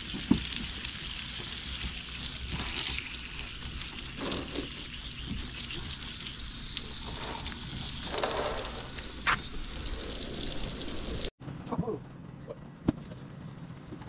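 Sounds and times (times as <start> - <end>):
hose spraying water: 0.0 - 11.3.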